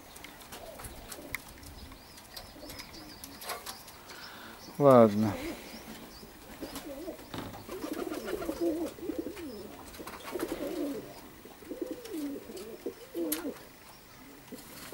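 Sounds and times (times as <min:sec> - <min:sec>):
pigeons cooing: 0:00.0 - 0:14.9.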